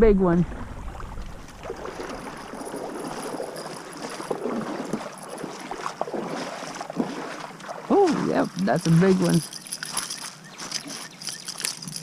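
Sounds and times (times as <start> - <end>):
river water rushing and splashing: 0.5 - 12.0.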